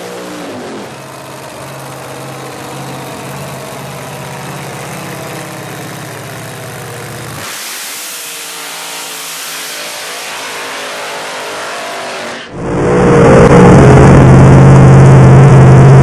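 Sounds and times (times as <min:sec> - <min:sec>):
racing car engine running: 0:00.0 - 0:16.0.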